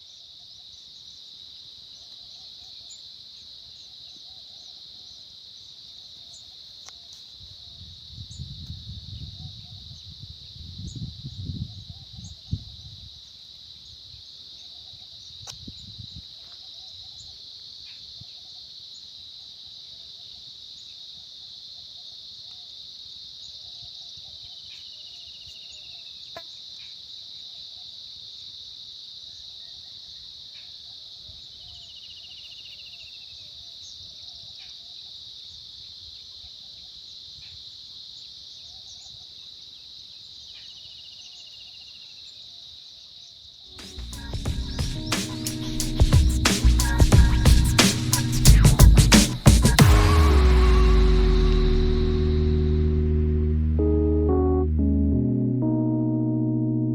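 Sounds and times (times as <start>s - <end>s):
insects droning: 0.0s - 53.5s.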